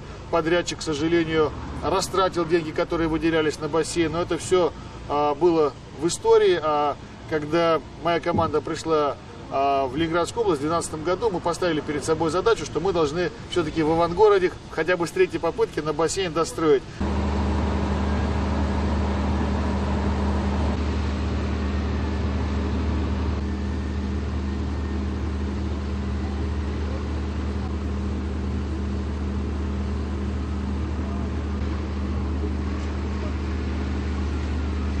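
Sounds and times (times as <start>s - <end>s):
construction machinery drone: 0.0s - 35.0s.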